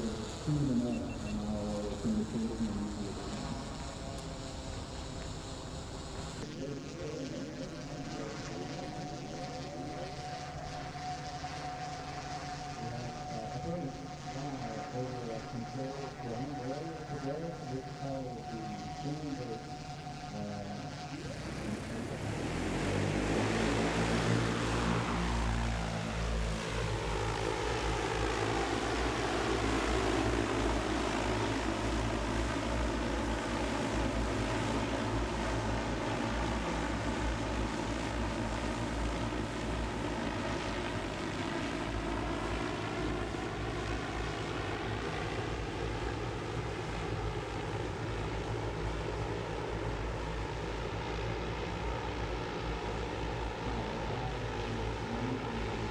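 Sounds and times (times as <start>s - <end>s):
drone rotors whirring: 0.0s - 55.9s.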